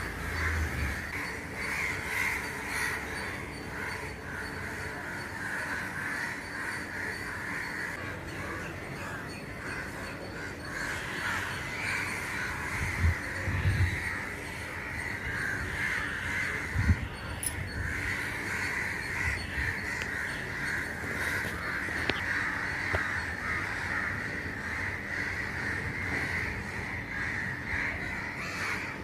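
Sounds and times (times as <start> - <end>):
crows cawing: 0.0 - 29.0.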